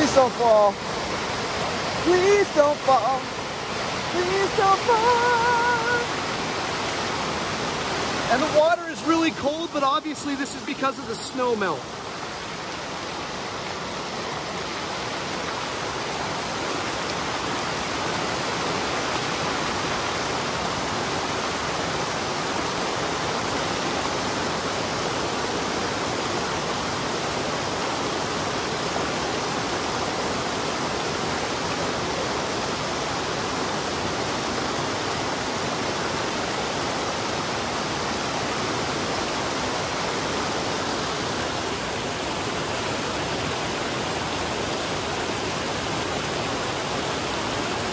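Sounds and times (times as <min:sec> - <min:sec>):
small waterfall splashing: 0:00.0 - 0:47.9.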